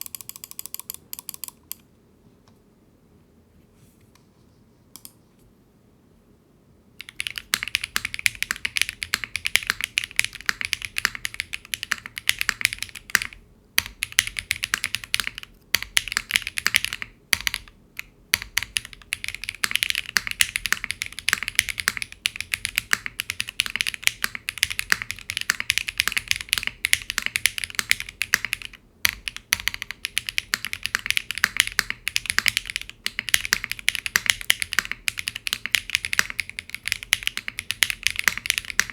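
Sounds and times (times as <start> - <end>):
typing on mechanical keyboard: 0.0 - 1.8, 7.0 - 38.9.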